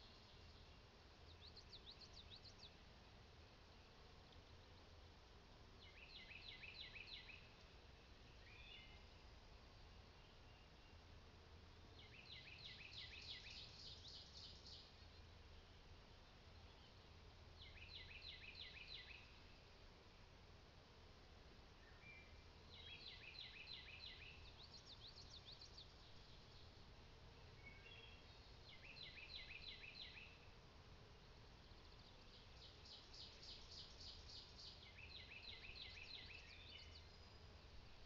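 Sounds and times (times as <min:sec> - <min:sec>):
faint songbird song: 0:00.0 - 0:38.0.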